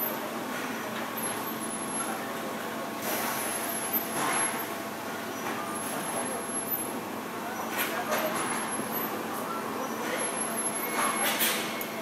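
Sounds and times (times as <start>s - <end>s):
factory machinery humming: 0.0s - 12.0s.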